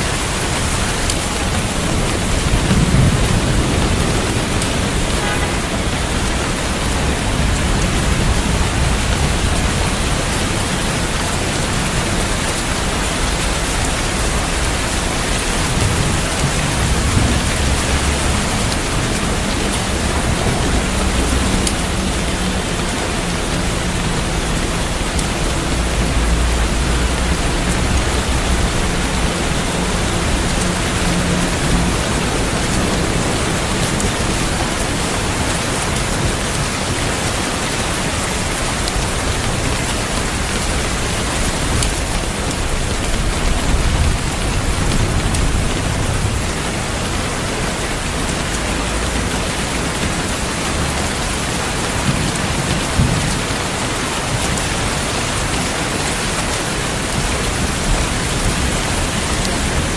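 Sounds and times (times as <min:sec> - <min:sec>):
heavy rain: 0:00.0 - 0:59.9
thunder rumbling: 0:00.0 - 0:59.9.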